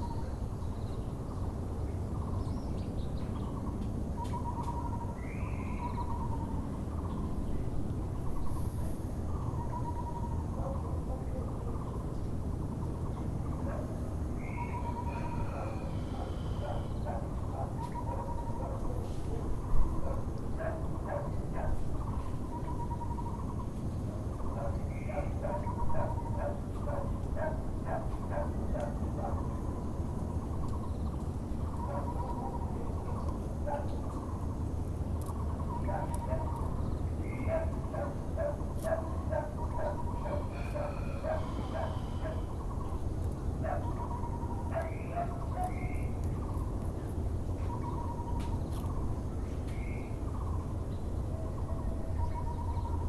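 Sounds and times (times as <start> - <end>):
low background rumble: 0.0 - 53.0
other birds calling: 2.2 - 7.5, 8.2 - 53.0
barbet hollow owl-like calls: 3.6 - 6.7, 8.2 - 12.1, 13.4 - 23.7, 24.3 - 31.0, 31.6 - 34.6, 35.2 - 46.8, 47.6 - 49.1, 49.7 - 53.0.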